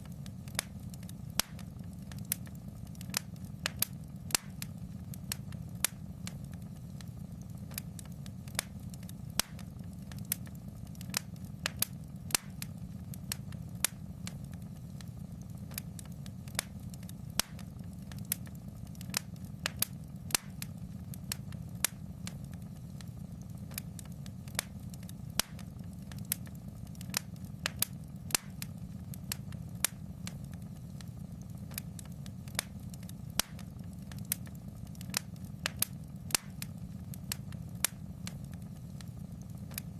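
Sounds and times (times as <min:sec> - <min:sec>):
fire snapping and popping: 0:00.0 - 0:39.9
low rumble of flames: 0:00.0 - 0:39.9.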